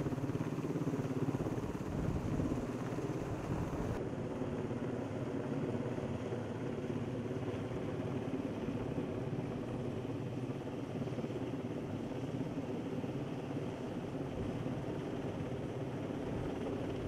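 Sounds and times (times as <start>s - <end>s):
helicopter rotor drone: 0.0s - 17.0s.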